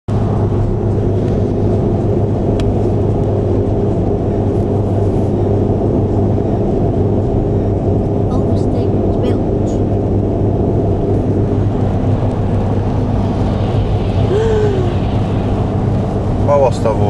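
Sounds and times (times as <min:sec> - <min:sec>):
car engine and tyre drone: 0:00.1 - 0:17.0.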